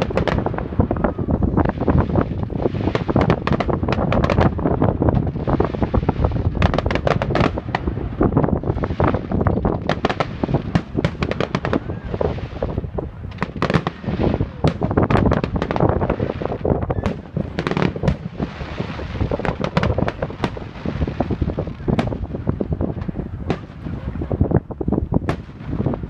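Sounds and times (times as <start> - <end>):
fireworks cracks and bangs: 0.0 - 26.0
wind on microphone: 0.0 - 26.0.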